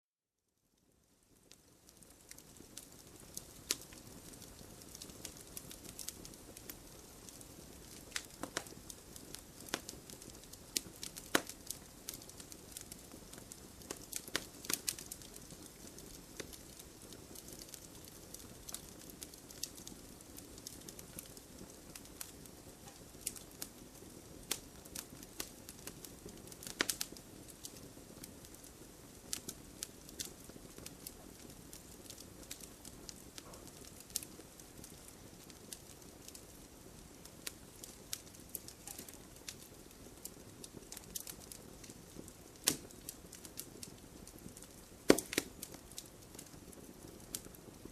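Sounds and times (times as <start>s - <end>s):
wood fire crackling and popping: 0.8s - 47.9s.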